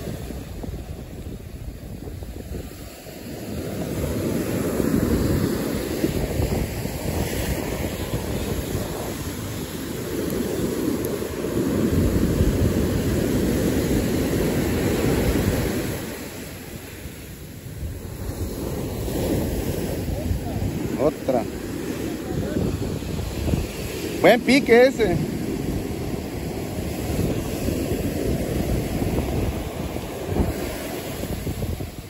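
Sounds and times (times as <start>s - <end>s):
ocean surf breaking on beach: 0.0s - 32.0s
wind rumbling on microphone: 0.0s - 32.0s.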